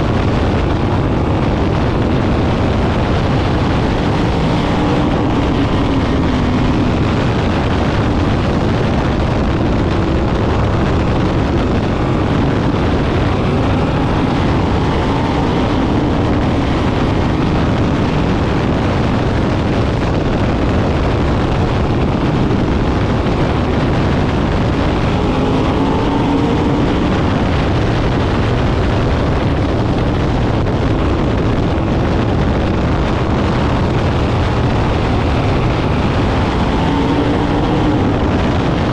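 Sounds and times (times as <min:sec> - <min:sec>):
racing car engines passing: 0:00.8 - 0:20.0, 0:21.3 - 0:29.0, 0:31.6 - 0:38.9.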